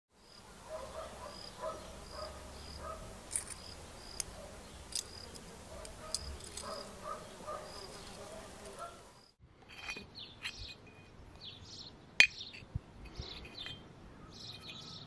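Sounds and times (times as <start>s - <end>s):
birds chirping: 0.2s - 9.4s, 10.1s - 15.0s.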